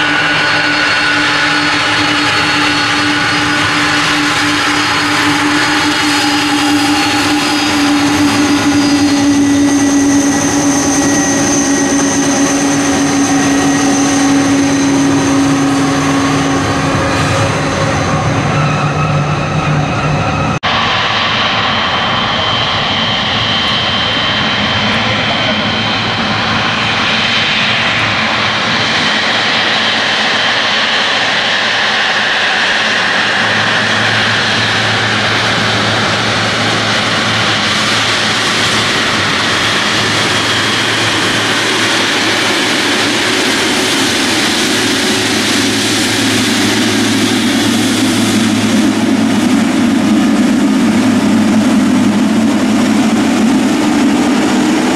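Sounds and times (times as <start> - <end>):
jet engines whining at taxi power: 0.0 - 54.9.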